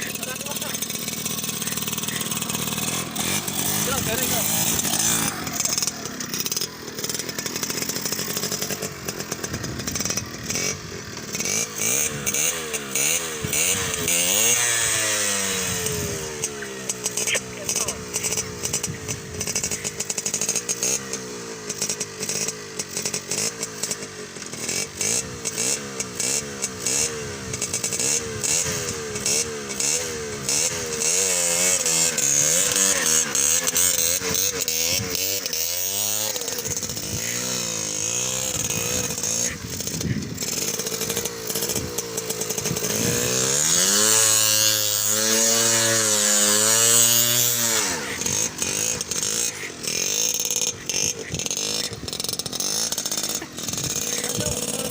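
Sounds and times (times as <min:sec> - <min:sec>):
two-stroke motorcycle engine revving: 0:00.0 - 0:54.9.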